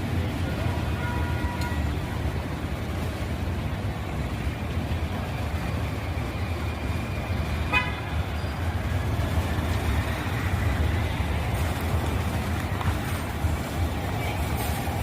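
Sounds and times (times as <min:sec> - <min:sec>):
low rumble of vehicles: 0:00.0 - 0:15.0.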